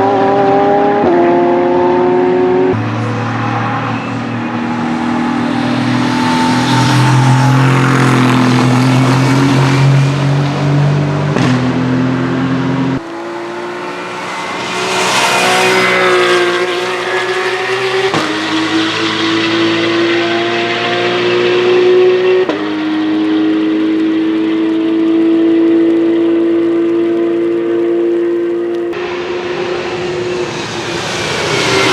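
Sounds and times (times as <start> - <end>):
race car engine accelerating: 0.0 - 31.9.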